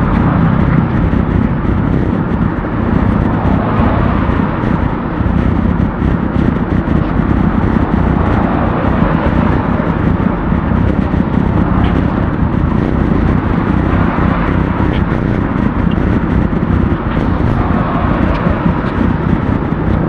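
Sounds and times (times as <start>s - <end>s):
road traffic rushing: 0.0s - 20.0s
wind: 0.0s - 20.0s.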